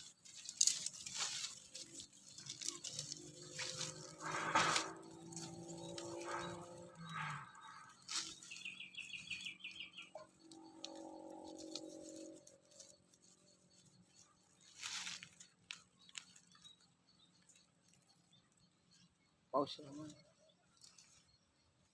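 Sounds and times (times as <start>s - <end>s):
bird trilling chirps: 0.0s - 21.9s.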